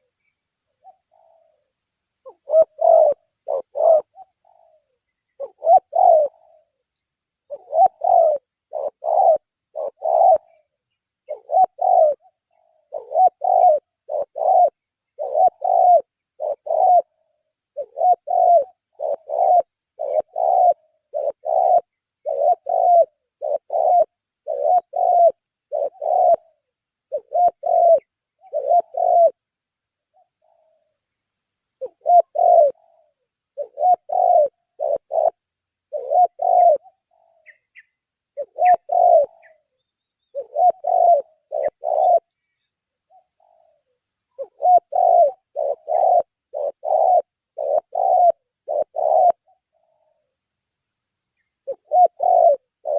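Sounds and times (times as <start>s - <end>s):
dove cooing: 0.0s - 6.8s, 7.4s - 31.0s, 31.8s - 50.4s, 51.4s - 52.9s.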